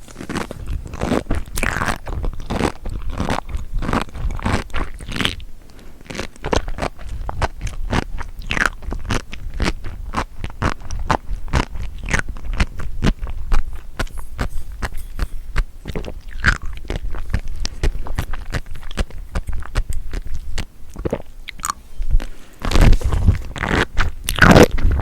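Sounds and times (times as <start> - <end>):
chewing crunchy food: 0.0 - 25.0.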